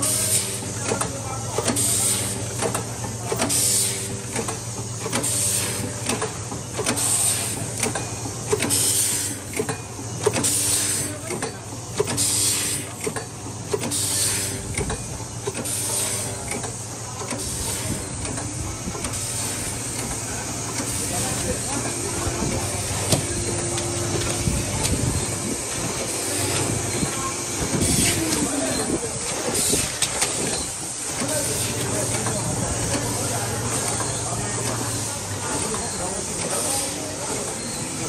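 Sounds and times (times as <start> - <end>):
machine motor hum: 0.0 - 38.0.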